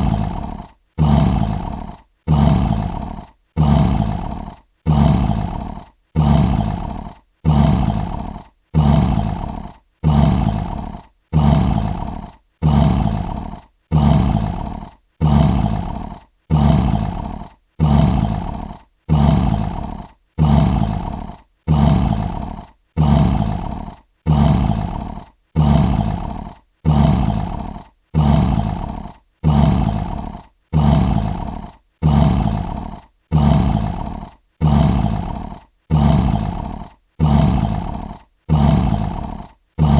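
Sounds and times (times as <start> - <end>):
lion roaring: 0.0 - 39.9.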